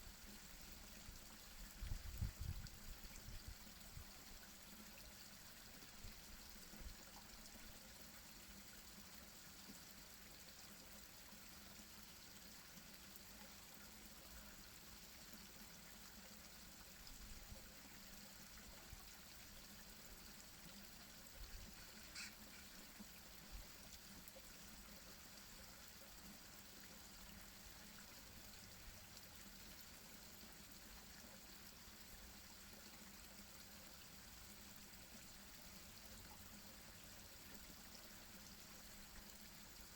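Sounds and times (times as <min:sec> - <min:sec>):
water falling into pond: 0:00.1 - 0:39.9.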